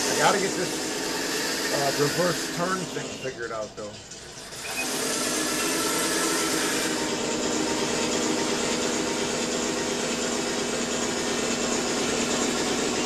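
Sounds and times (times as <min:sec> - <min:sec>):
simulated tank engine sound: 0:00.0 - 0:13.0.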